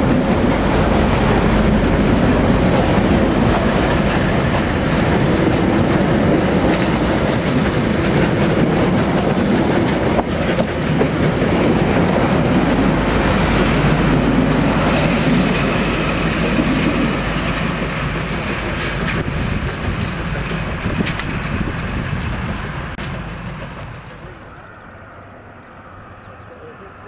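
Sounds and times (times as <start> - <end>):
train wheels rumbling on rails: 0.0 - 26.8.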